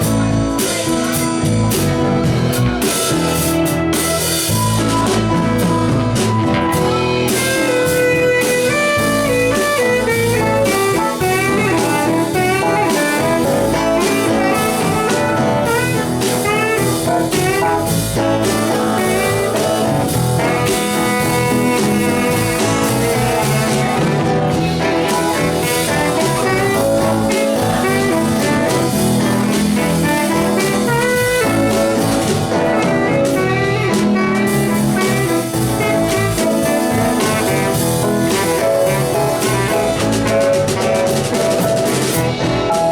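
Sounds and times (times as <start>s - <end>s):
lead guitar runs: 0.0s - 42.9s
live band playing: 0.0s - 42.9s.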